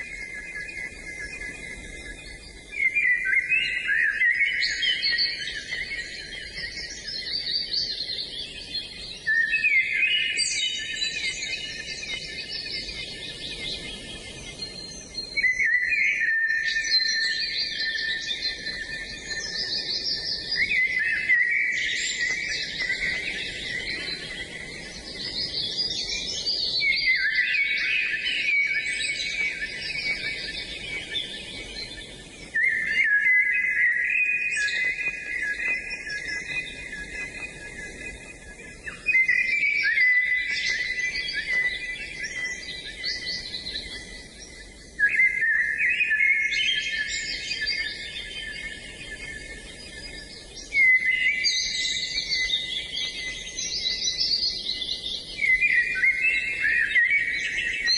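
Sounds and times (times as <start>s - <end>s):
songbirds chorus: 0.0s - 57.9s.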